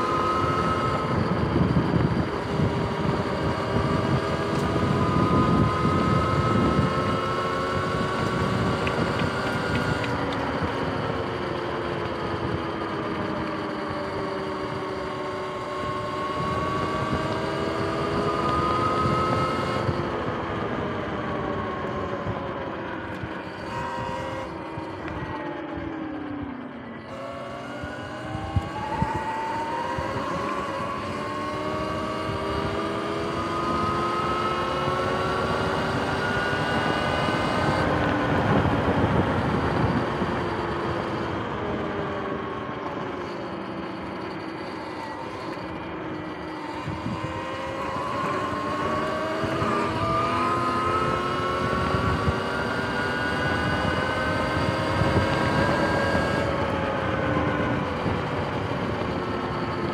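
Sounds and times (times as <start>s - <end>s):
electric dirt bike motor whine: 0.0s - 59.9s
rumble of wind and tyres: 0.0s - 59.9s.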